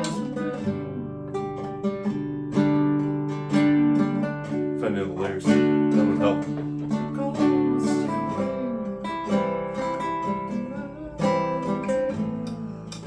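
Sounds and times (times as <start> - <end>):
guitar chords and picked notes: 0.0 - 13.0.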